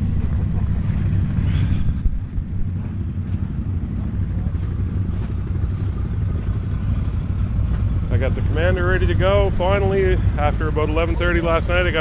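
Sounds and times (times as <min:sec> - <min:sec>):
vehicle diesel engine passing: 0:00.0 - 0:12.0.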